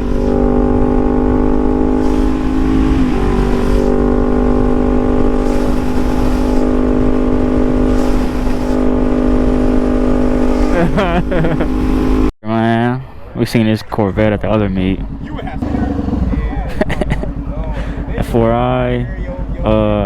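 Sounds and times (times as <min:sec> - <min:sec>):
motorcycle engine running: 0:00.0 - 0:12.3, 0:14.6 - 0:20.0
wind and road noise: 0:00.0 - 0:12.3, 0:13.0 - 0:20.0.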